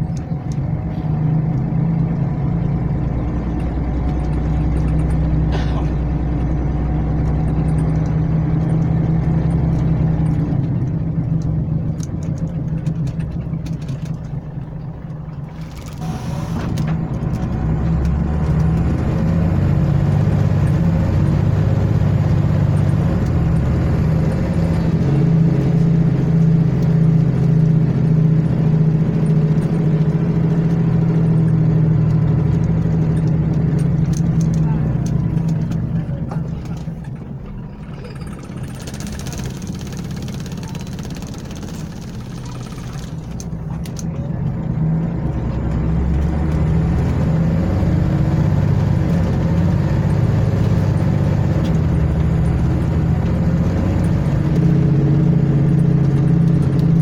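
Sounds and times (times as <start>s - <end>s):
bus engine: 0.0s - 57.0s.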